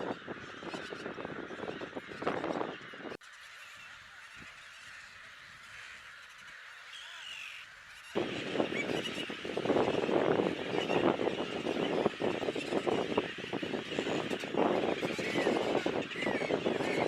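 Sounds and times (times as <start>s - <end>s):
gulls squawking: 0.0s - 17.0s.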